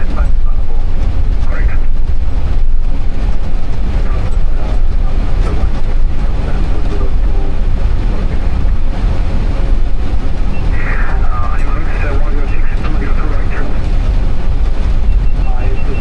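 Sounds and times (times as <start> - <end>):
faint voices: 0.0 - 2.0, 3.2 - 14.1, 15.1 - 16.0
aircraft cockpit rumble: 0.0 - 16.0.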